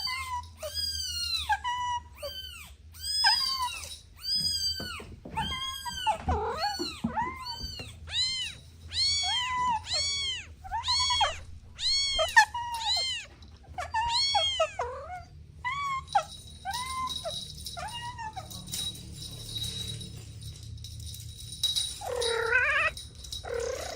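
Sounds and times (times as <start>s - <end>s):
kittens meowing: 0.0s - 18.9s, 22.0s - 23.9s.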